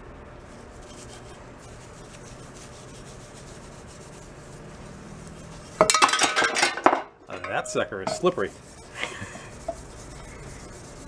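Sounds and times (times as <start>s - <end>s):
soap pad scrubbing metal: 0.5s - 6.3s, 7.4s - 11.0s.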